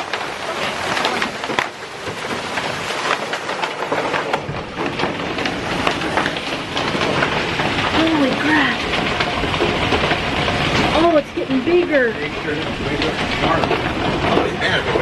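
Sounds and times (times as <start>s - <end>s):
hailstones striking hard surfaces: 0.0s - 15.0s
rain hissing: 0.0s - 15.0s.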